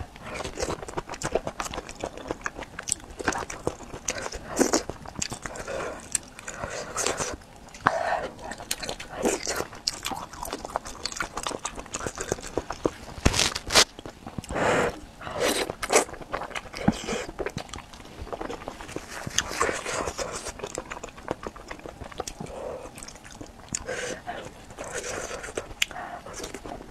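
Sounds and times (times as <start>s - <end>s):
close chewing and mouth sounds: 0.0s - 26.9s.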